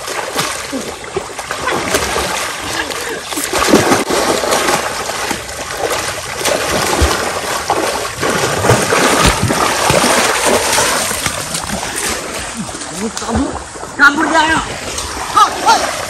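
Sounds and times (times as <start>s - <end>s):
people splashing through water: 0.0s - 16.0s.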